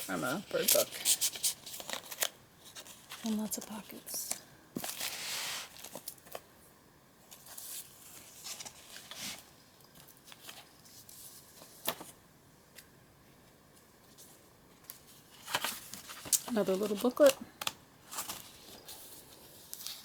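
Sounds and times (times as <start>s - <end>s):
paper pages rustling: 0.0s - 6.4s, 7.3s - 12.8s, 14.1s - 20.0s.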